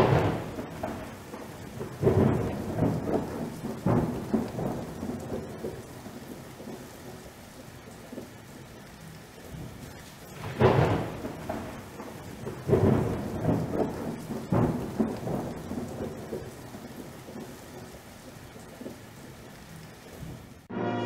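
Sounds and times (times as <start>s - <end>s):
thunder rolling: 0.0s - 20.7s
rain hissing: 0.0s - 21.0s.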